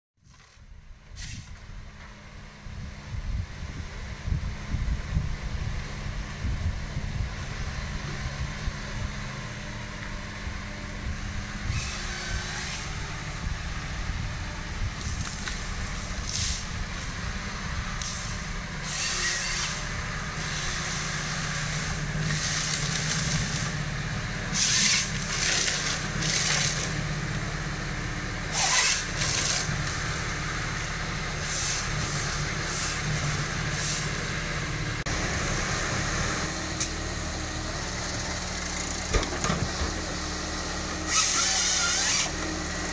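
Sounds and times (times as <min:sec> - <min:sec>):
diesel engine running: 0:00.3 - 0:42.9.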